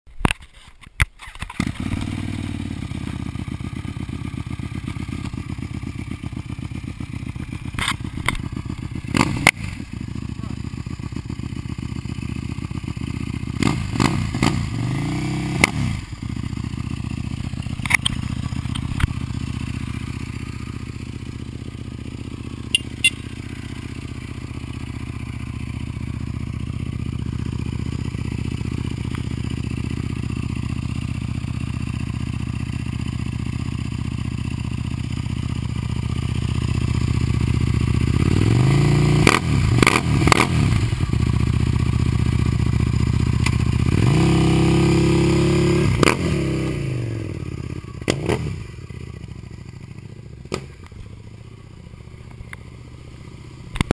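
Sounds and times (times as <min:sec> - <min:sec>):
motorcycle engine revving: 0:01.2 - 0:53.9.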